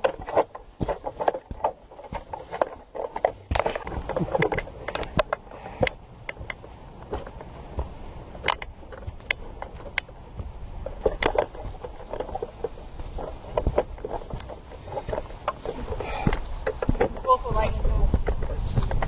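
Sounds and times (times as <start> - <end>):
footsteps on rocky trail: 0.0 - 19.0.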